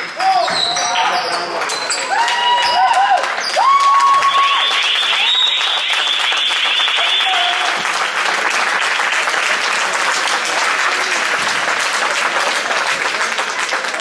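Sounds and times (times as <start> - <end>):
spectators applauding: 0.0 - 14.0.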